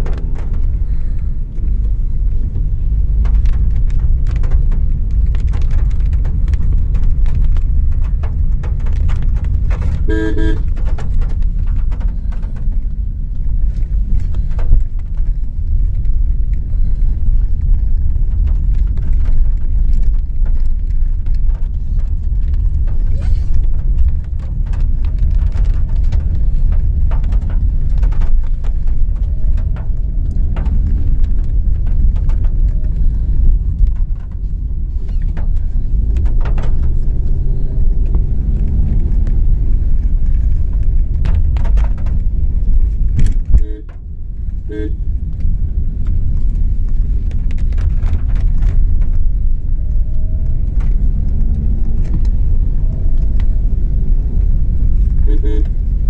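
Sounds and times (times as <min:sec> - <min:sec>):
car engine and tyres rumbling: 0:00.0 - 0:56.0
car knocks and rattles: 0:00.0 - 0:56.0.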